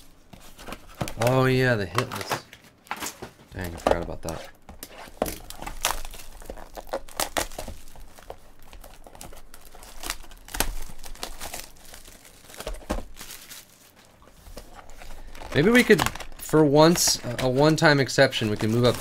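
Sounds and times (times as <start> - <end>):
plastic wrapping crinkling and tearing: 0.0 - 19.0.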